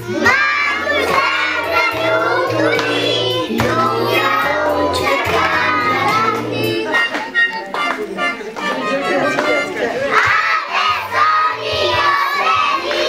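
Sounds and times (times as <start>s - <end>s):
backing track with bass line: 0.0s - 12.8s
children singing: 0.0s - 13.0s.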